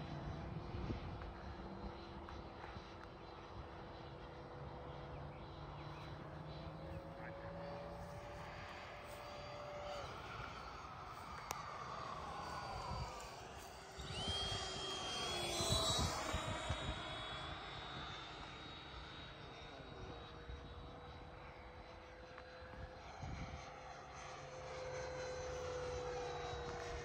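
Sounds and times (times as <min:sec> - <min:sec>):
model jet fans whining: 0:00.0 - 0:27.0.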